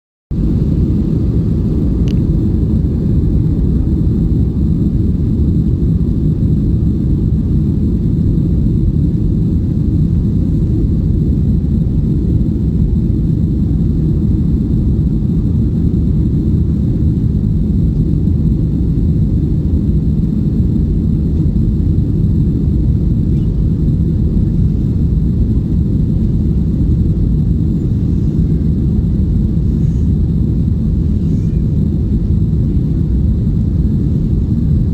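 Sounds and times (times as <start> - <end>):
airplane cabin engine rumble: 0.3 - 34.9
faint high whine: 0.4 - 34.9.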